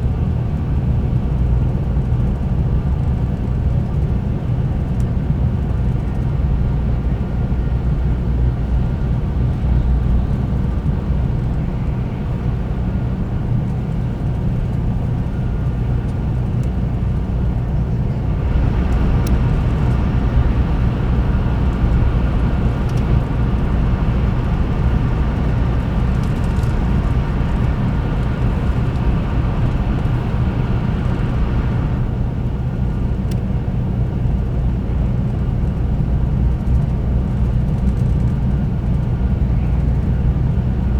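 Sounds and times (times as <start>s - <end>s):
train cabin rumble: 0.0s - 40.9s.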